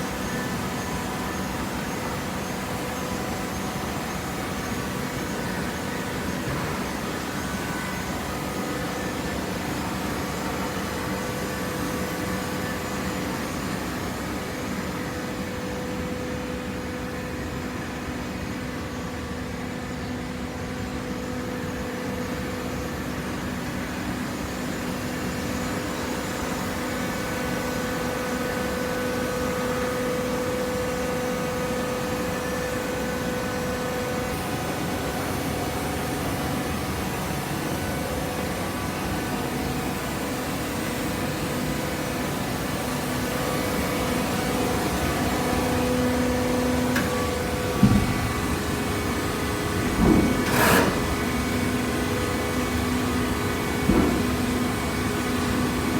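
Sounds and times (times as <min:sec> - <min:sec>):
baler motor and pump humming: 0:00.0 - 0:55.9.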